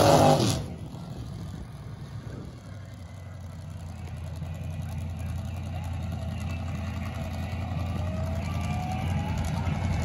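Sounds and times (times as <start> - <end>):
dragster engine idling: 0.6 - 10.0.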